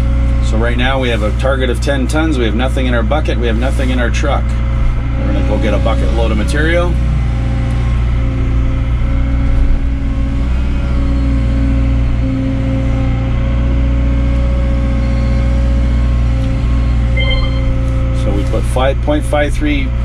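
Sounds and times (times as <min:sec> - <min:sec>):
excavator engine and hydraulics droning: 0:00.0 - 0:20.0
hydraulic whine: 0:00.0 - 0:20.0.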